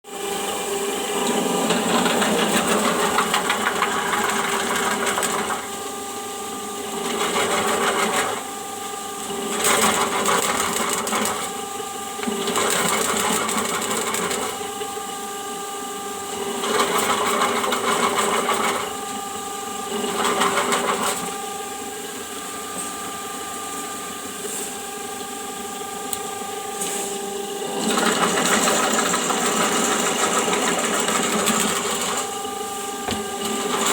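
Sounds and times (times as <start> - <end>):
drain-cleaning machine motor whining: 0.1 - 33.9.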